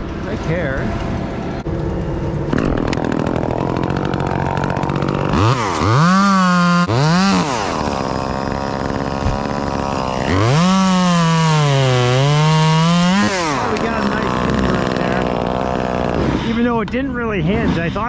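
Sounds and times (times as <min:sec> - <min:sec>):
chainsaw idling and revving: 0:00.0 - 0:18.0
chainsaw cutting wood: 0:01.7 - 0:16.7.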